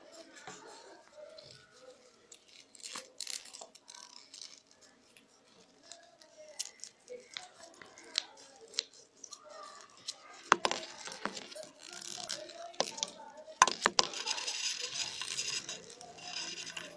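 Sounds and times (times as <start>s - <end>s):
paper tubes rustling and crinkling: 0.0s - 16.9s.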